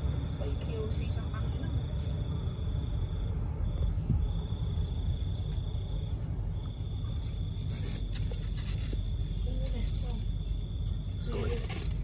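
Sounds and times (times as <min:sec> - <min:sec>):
high-pitched insect trill: 0:00.0 - 0:12.0
low steady rumble: 0:00.0 - 0:12.0.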